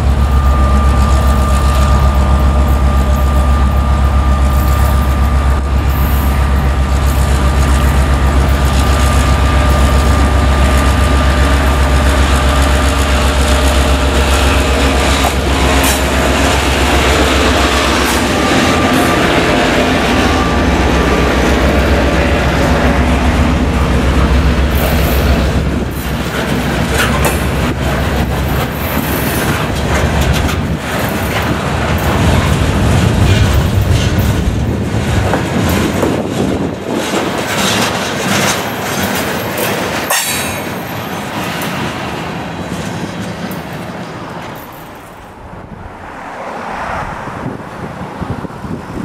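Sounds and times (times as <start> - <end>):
train wheels clicking on rail joints: 0.0 - 45.4
diesel locomotive engine drone: 0.0 - 49.0.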